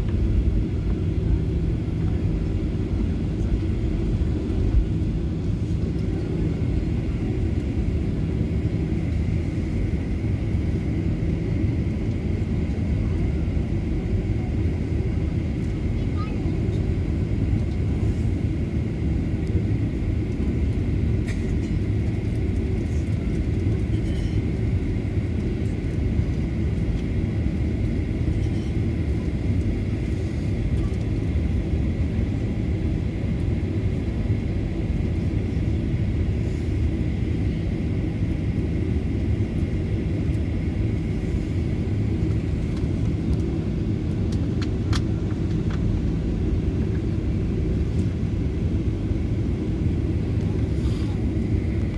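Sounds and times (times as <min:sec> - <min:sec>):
low engine rumble: 0:00.0 - 0:51.9.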